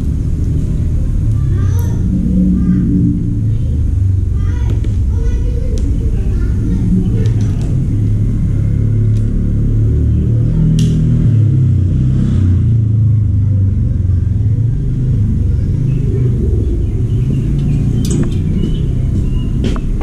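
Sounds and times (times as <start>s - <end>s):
low motor rumble: 0.0s - 20.0s.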